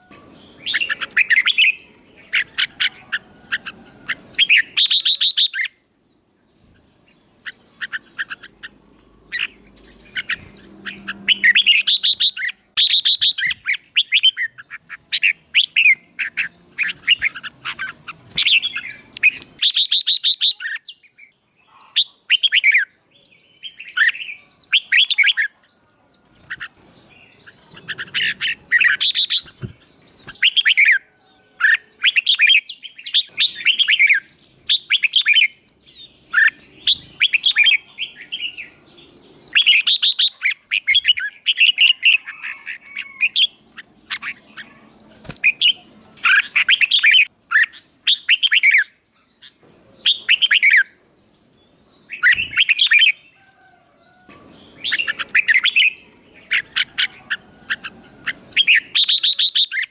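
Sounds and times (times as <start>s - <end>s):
songbirds chattering song: 0.0s - 59.9s.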